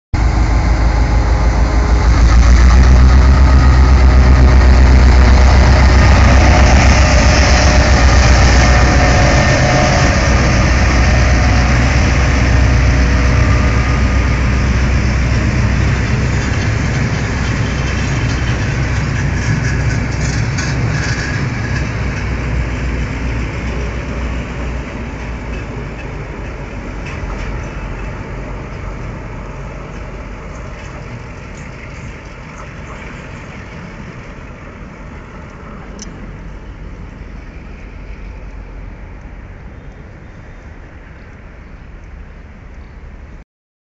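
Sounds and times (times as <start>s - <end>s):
diesel locomotive engine running: 0.2s - 43.3s.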